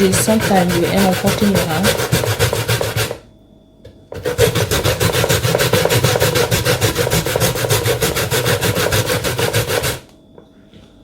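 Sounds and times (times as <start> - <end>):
root grated on metal grater: 0.0 - 3.2, 4.2 - 10.0.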